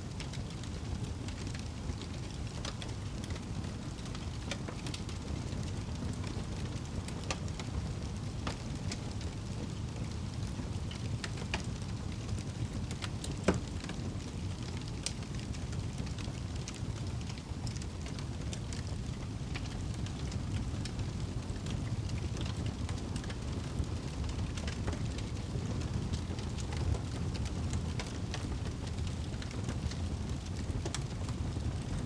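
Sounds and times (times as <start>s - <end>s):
fire crackling and popping: 0.0s - 32.0s
fire rumbling: 0.0s - 32.0s.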